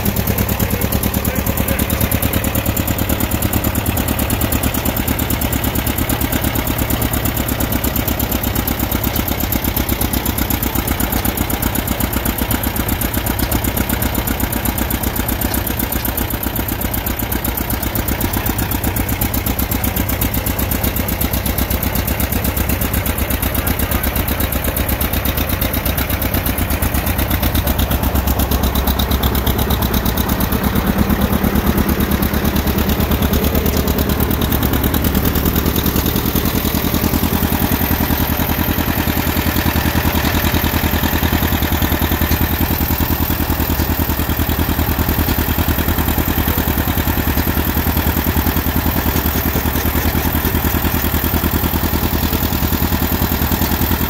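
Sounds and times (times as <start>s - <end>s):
tractor engine running steadily: 0.0s - 54.0s.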